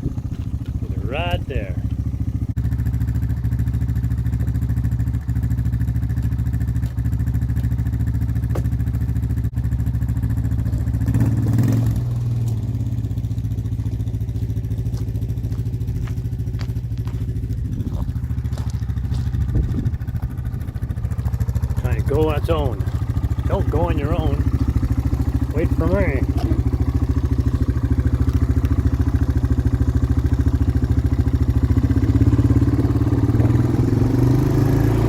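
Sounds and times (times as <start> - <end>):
small vehicle engine running: 0.0 - 35.0.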